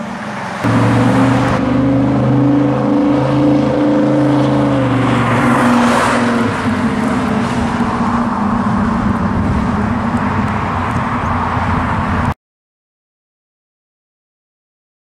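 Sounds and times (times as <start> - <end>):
car engine driving by: 0.0 - 12.3.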